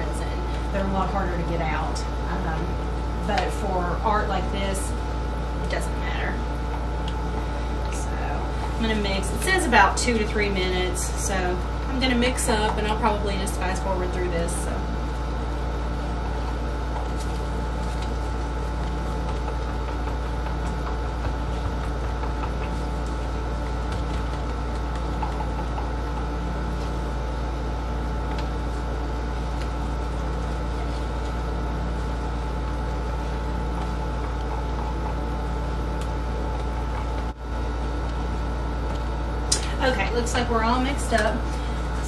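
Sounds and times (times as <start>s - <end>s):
steady machine hum: 0.0s - 42.0s.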